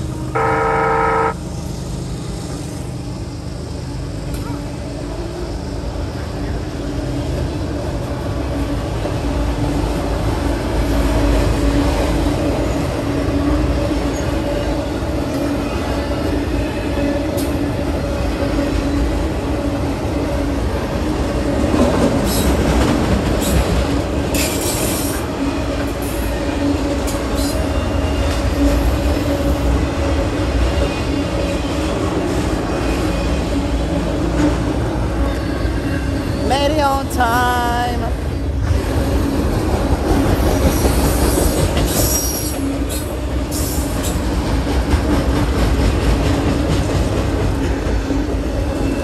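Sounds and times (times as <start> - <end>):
train wheels rumbling on rail: 1.3 - 49.0.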